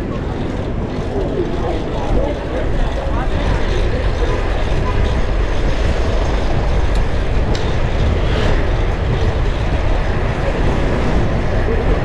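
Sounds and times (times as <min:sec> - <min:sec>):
road and traffic noise: 0:00.0 - 0:12.0
wind rumbling on microphone: 0:00.0 - 0:12.0.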